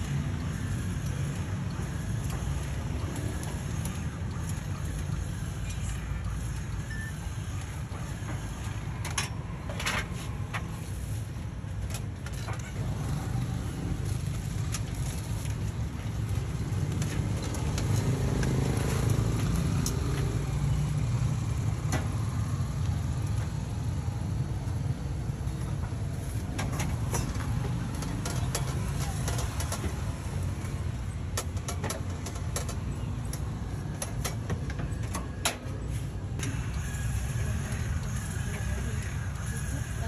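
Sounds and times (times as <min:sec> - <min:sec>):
street background rumble: 0:00.0 - 0:40.0.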